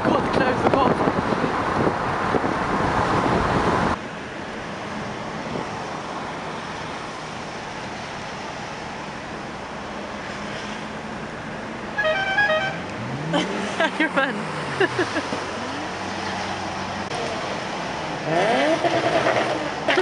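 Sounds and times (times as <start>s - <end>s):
wind and road rush: 0.0s - 20.0s.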